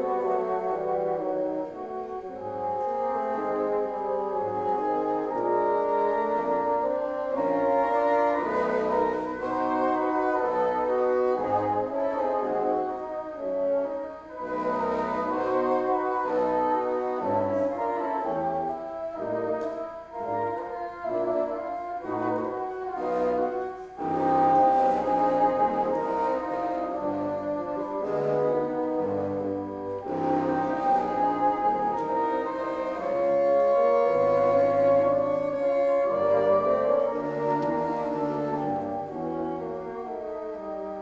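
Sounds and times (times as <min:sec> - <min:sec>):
bassoons playing in harmony: 0:00.0 - 0:41.0.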